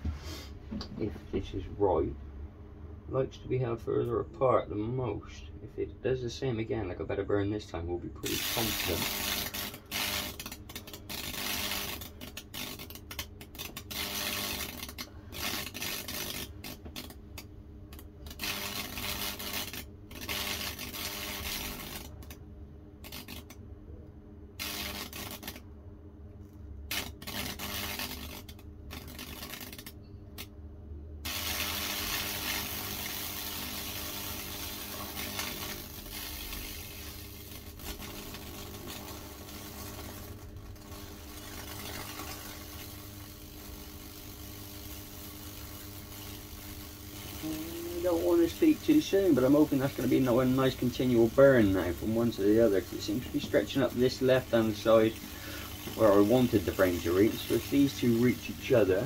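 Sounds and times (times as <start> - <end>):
steady electrical hum: 0.0 - 59.0
electric arc crackling and sizzling: 8.2 - 23.6, 24.5 - 25.7, 26.6 - 30.5, 31.2 - 59.0.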